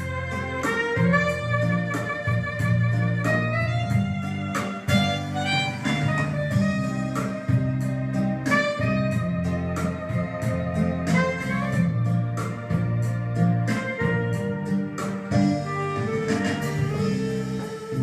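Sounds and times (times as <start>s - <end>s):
jazz or blues guitar music: 0.0s - 18.0s.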